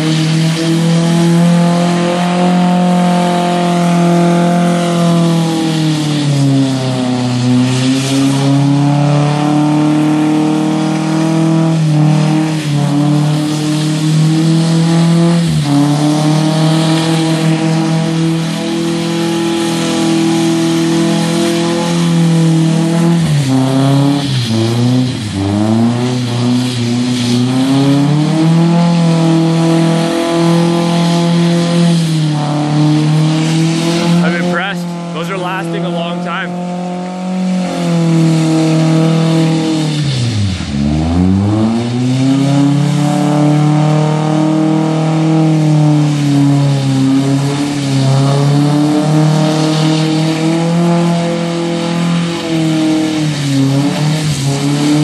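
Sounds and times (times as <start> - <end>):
tires spinning on wet pavement: 0.0 - 55.0
truck engine at high revs: 0.0 - 55.0.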